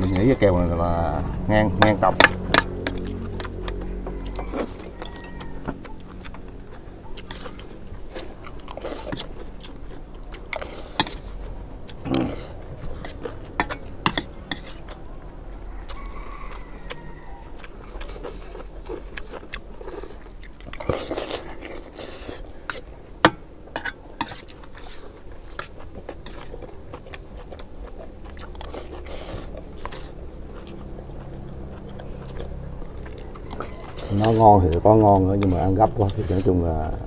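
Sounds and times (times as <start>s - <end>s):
chewing: 0.0s - 37.0s.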